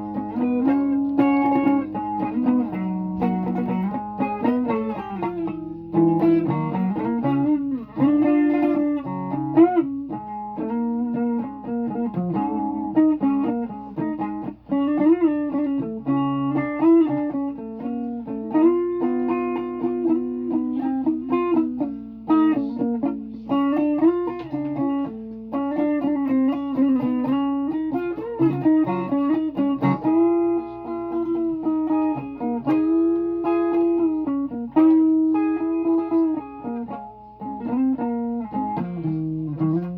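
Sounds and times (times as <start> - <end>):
solo guitar melody: 0.0 - 39.9.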